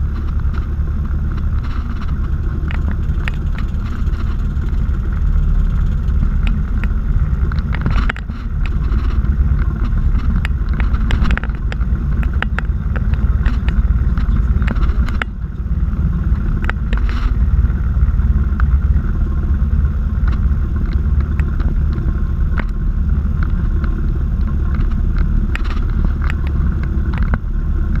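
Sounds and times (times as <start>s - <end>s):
aircraft engine and propeller: 0.0s - 28.0s.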